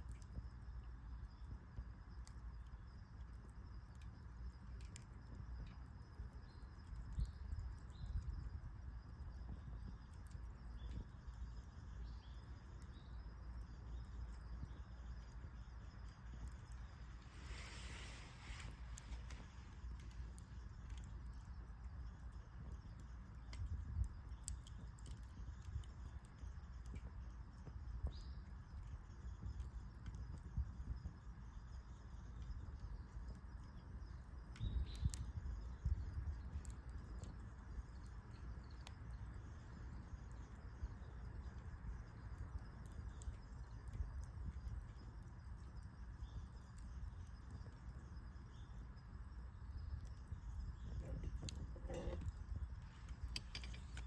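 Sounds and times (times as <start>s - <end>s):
campfire wood crackling: 0.0s - 54.0s
sharp pops of burning wood: 0.0s - 54.0s
low steady rumble: 2.8s - 54.0s.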